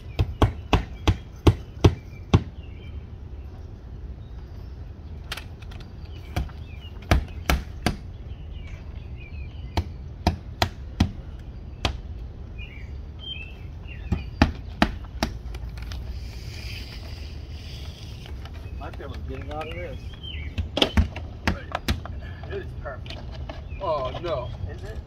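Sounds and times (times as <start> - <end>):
birds chirping faintly: 0.0 - 25.0.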